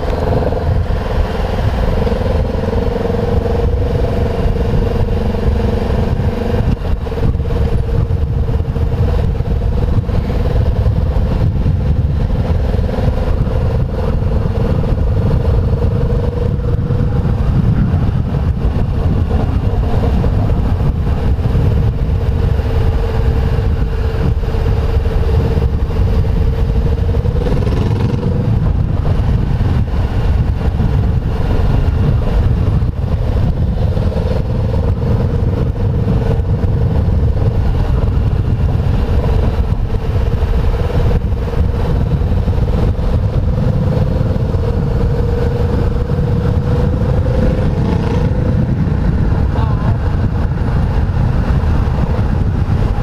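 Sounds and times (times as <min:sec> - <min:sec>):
motorcycle engine running: 0:00.0 - 0:53.0
wind and road noise rumble: 0:00.0 - 0:53.0.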